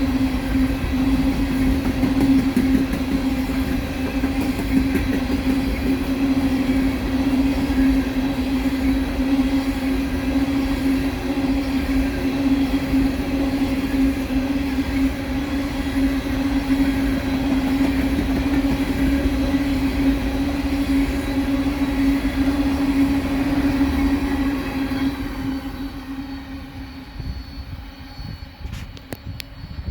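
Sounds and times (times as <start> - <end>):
freight train rolling past: 0.0 - 29.9.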